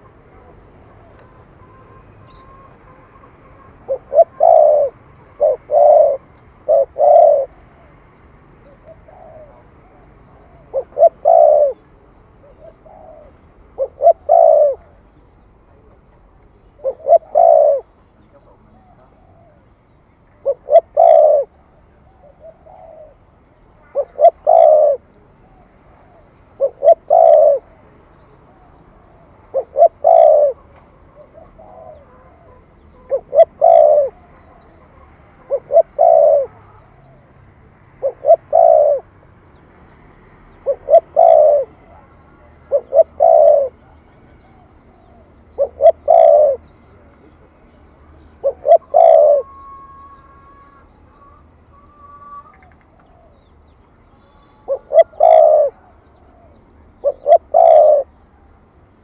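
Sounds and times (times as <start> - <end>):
dove cooing: 0.0 - 8.0, 8.6 - 16.0, 16.7 - 19.6, 20.4 - 37.3, 37.9 - 39.6, 40.3 - 58.3.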